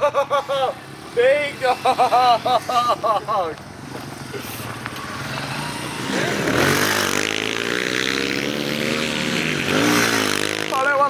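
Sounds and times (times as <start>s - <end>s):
small motorbike engine revving: 0.0s - 11.0s.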